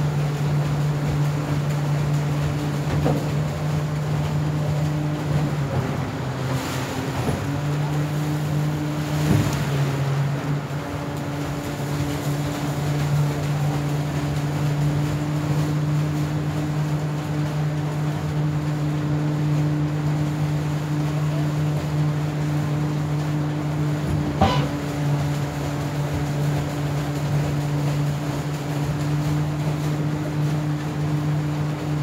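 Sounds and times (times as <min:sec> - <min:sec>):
boat engine droning: 0:00.0 - 0:32.0
rushing prop wash: 0:00.0 - 0:32.0.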